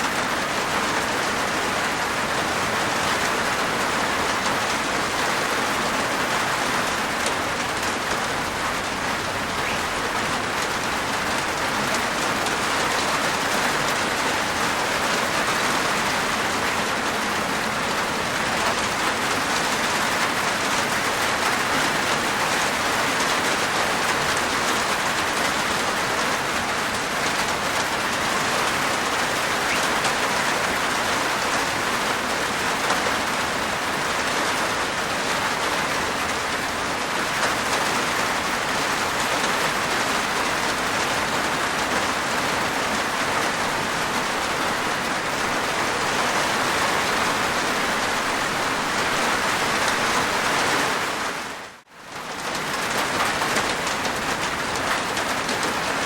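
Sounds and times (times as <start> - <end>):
heavy rain on a rooftop: 0.0 - 56.0.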